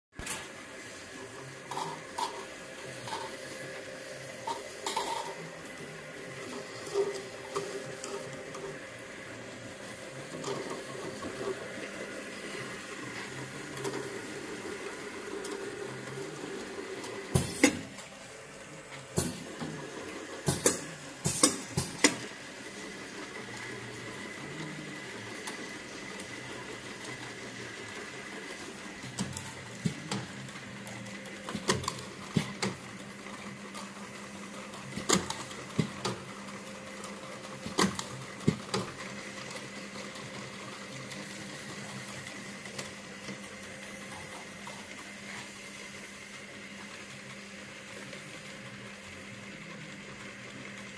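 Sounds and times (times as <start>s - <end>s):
motor and conveyor hum: 0.2s - 50.9s.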